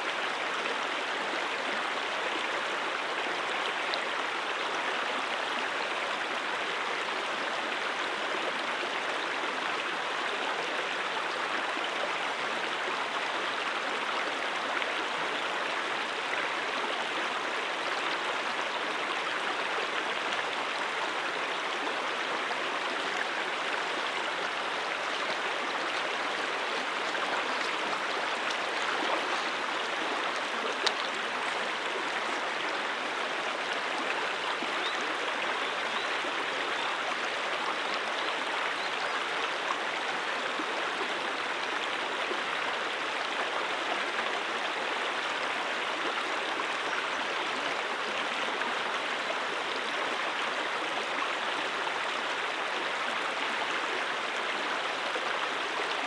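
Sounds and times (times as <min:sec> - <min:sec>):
brook water flowing over rocks: 0:00.0 - 0:56.0.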